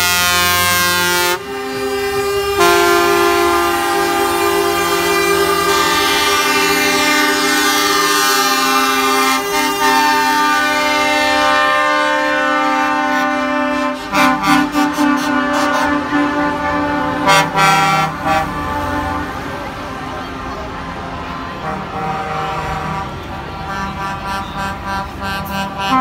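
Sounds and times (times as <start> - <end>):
lorry air horns sounding: 0.0 - 26.0.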